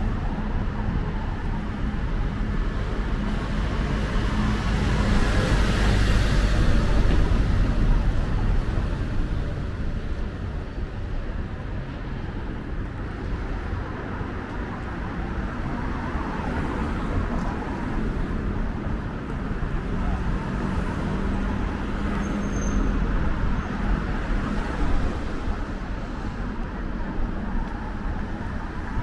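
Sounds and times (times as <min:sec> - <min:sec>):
minibus engine drone: 0:00.0 - 0:29.0.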